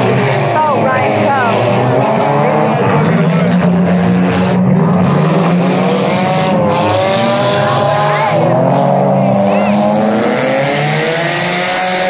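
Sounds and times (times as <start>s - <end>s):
car engines revving: 0.0s - 12.0s
engines idling drone: 0.0s - 12.0s.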